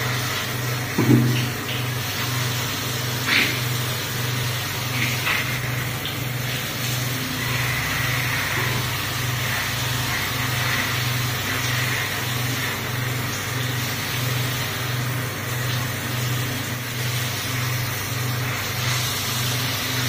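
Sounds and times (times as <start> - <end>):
shower water splashing on tiles: 0.0 - 20.0.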